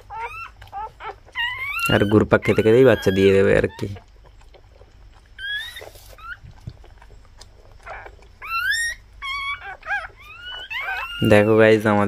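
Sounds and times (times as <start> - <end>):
puppies squeaking: 0.0 - 12.0.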